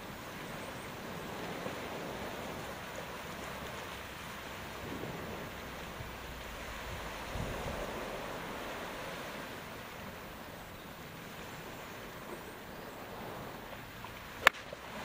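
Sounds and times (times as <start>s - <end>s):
sea surf on rocky shore: 0.0s - 15.0s
wind: 0.0s - 15.0s.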